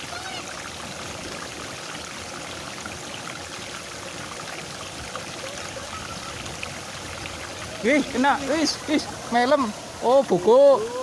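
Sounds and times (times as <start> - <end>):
water rushing along a ditch: 0.0 - 11.0.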